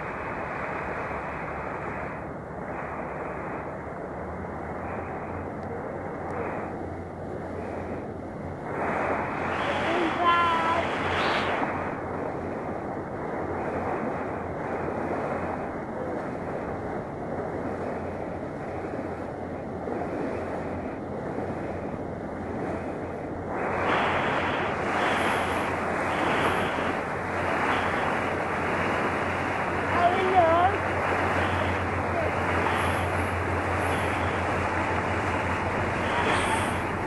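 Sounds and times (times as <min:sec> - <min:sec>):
low steady hum: 0:00.0 - 0:37.0
sea water rushing: 0:00.0 - 0:37.0
wind buffeting microphone: 0:00.0 - 0:37.0.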